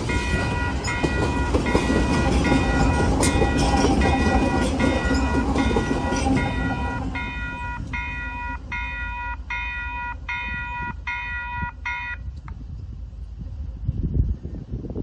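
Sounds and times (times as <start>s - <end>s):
level crossing warning beeps: 0.0s - 12.3s
wind: 0.0s - 15.0s.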